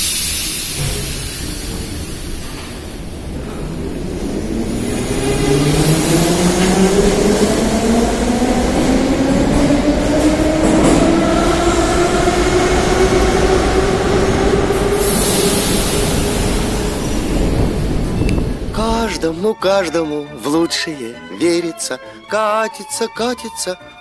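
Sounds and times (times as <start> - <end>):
train wheels rumbling on rails: 0.0 - 19.7.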